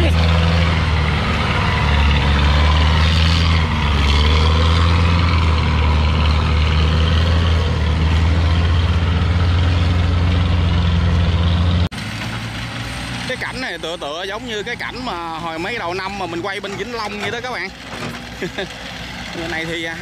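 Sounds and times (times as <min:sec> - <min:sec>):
diesel engines rumbling: 0:00.0 - 0:20.0.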